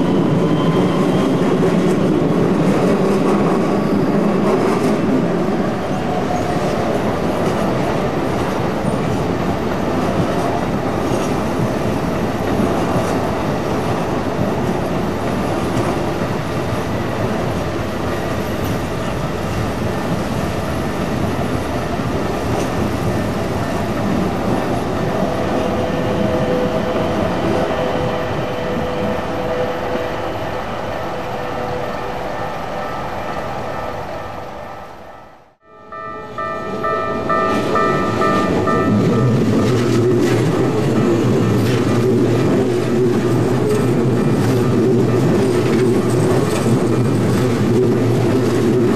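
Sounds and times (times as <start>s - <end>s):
train wheels rumbling on rails: 0.0s - 35.5s, 36.3s - 48.9s.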